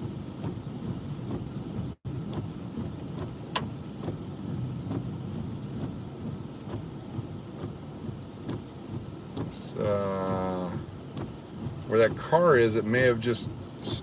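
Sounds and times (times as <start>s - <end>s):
rain on car roof: 0.0s - 14.0s.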